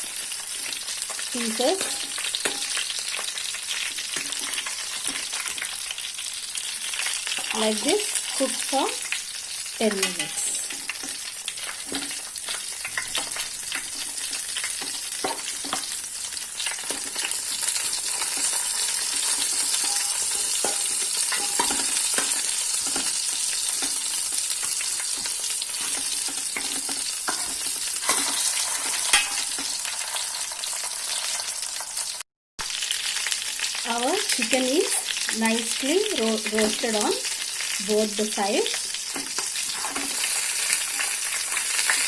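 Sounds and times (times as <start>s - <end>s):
chicken frying in a pan: 0.0s - 42.0s.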